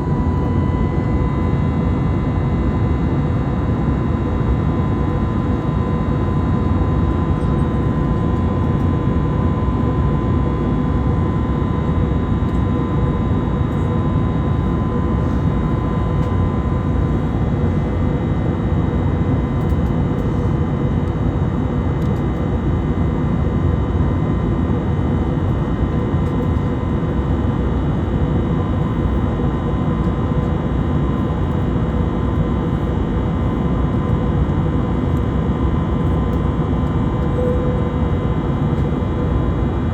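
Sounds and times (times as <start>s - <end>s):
steady whine: 0.0s - 18.7s, 25.8s - 39.9s
jet engine and airflow noise: 0.0s - 39.9s.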